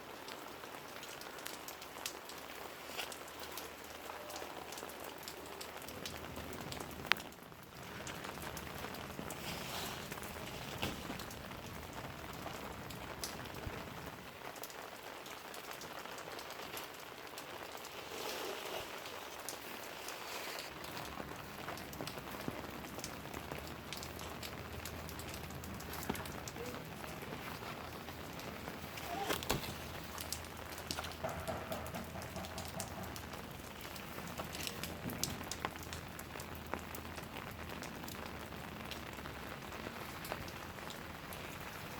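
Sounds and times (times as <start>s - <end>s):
rain pattering on leaves: 0.0s - 41.9s.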